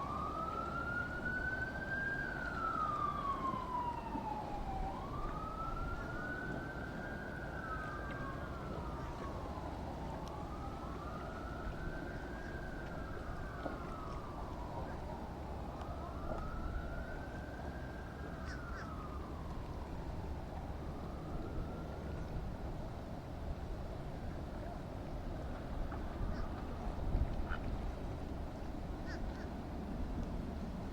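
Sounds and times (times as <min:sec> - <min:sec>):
emergency vehicle siren wailing: 0:00.0 - 0:30.9.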